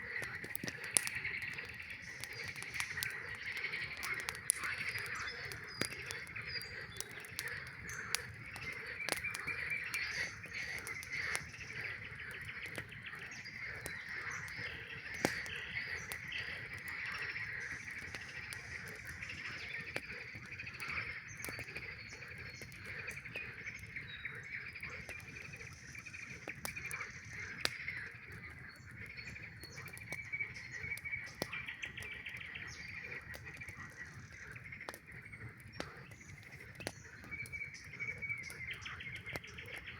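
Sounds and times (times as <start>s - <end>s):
campfire popping and crackling: 0.0s - 39.9s
frogs trilling: 0.0s - 39.9s.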